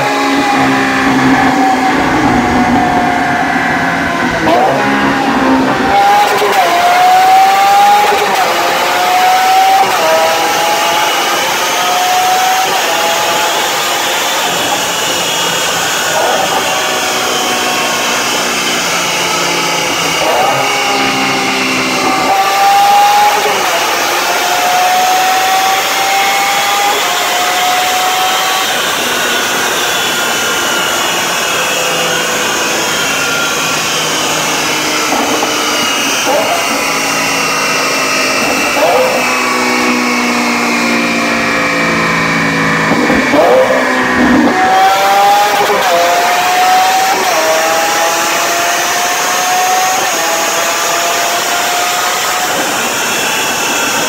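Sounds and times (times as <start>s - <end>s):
car engine at full throttle: 0.0s - 54.0s.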